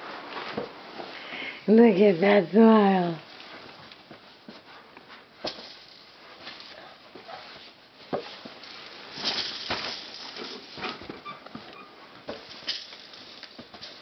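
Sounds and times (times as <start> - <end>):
fabric rustling: 0.0 - 14.0.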